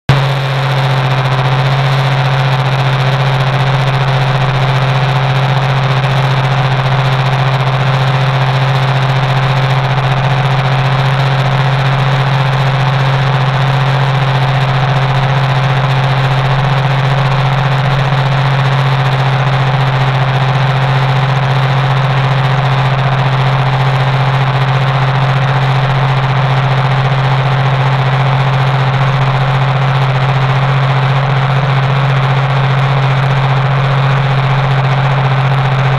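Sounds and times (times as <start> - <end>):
tractor engine droning: 0.1 - 35.9.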